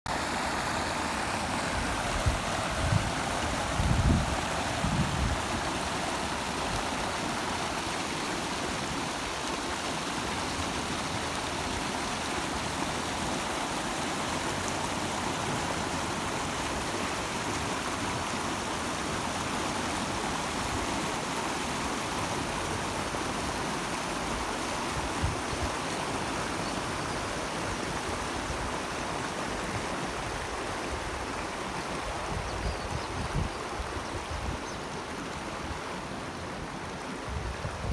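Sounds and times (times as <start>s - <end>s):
river water rushing over weir: 0.1s - 37.9s.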